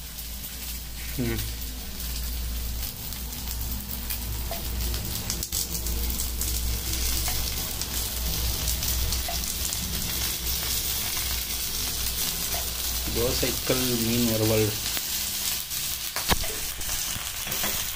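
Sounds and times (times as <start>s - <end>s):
fish sizzling in oil: 0.0s - 17.9s.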